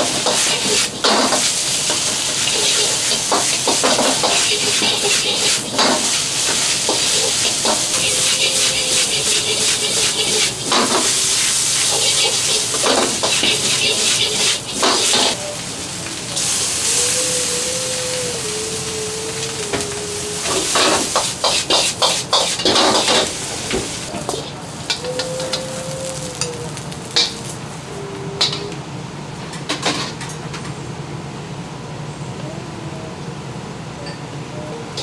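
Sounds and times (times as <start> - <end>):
rice sizzling in a wok: 0.0 - 28.1.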